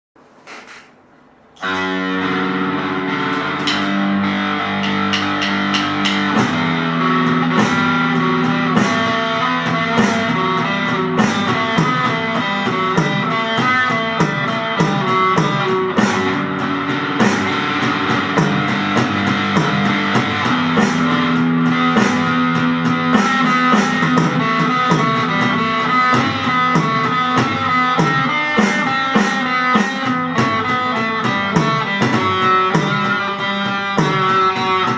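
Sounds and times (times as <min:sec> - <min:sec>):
instrumental rock music: 0:01.6 - 0:34.9.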